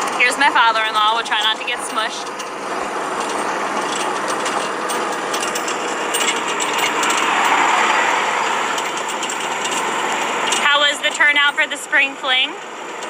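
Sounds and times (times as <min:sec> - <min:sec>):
farm vehicle rattling: 0:00.0 - 0:11.8.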